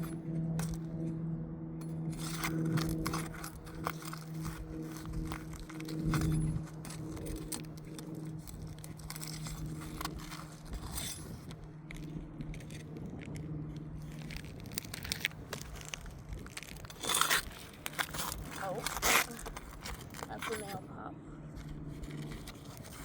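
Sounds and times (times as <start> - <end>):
steady low hum: 0.0 - 23.0
pry bar scraping roof shingles: 2.1 - 20.8.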